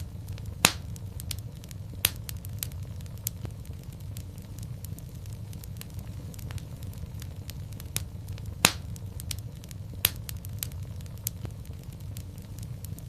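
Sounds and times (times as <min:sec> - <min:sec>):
loud pop of fire: 0:00.0 - 0:13.0
low rumble of flames: 0:00.0 - 0:13.0
wood fire crackling: 0:00.0 - 0:13.0.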